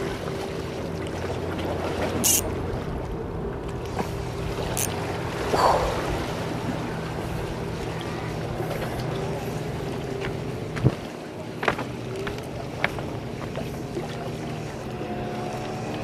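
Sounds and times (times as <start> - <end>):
boat motor hum: 0.0 - 16.0
wind and sea noise: 0.0 - 16.0.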